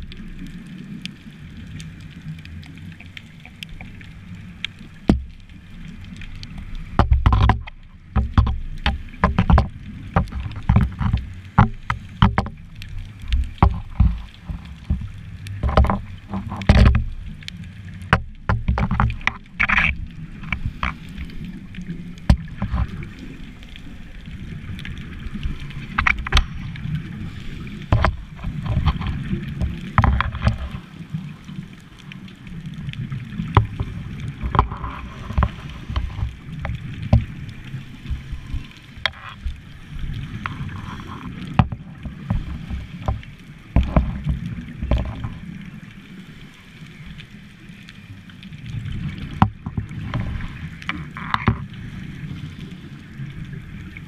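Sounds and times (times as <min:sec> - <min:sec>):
sharp clicks and crackles: 0:00.0 - 0:46.0, 0:46.9 - 0:54.0
underwater rumble of water and bubbles: 0:00.0 - 0:54.0.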